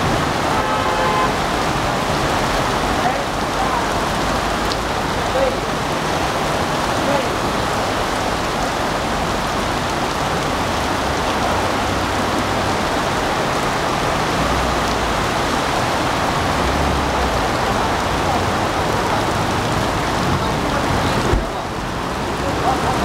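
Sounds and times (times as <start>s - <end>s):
cars driving through water: 0.0s - 23.0s
heavy rain pouring: 0.0s - 23.0s.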